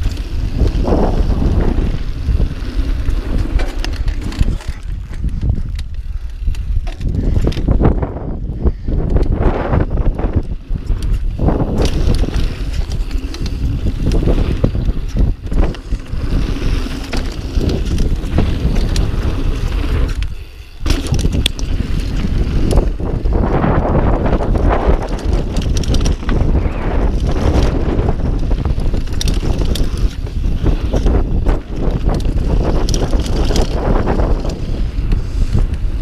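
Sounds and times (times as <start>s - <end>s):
bike clattering over bumps: 0.0s - 36.0s
bike tyre noise: 0.0s - 36.0s
wind buffeting the microphone: 0.0s - 36.0s.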